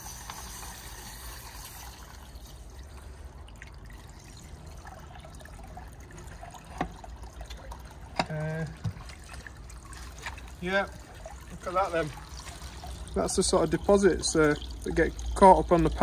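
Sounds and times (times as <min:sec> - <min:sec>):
water trickling into metal trough: 0:00.0 - 0:16.0.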